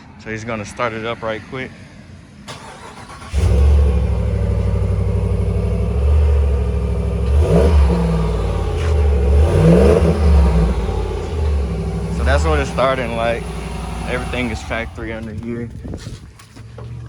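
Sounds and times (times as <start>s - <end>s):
truck engine idling and revving: 2.5s - 17.0s.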